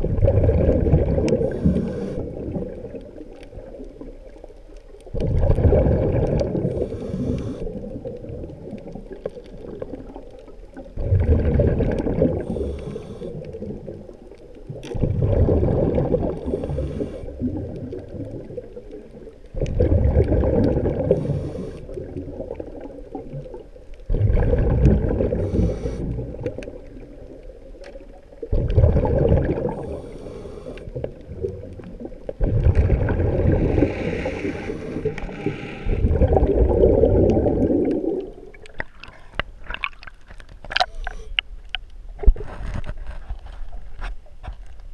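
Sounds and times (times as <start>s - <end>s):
underwater breathing and bubbles: 0.0s - 44.9s.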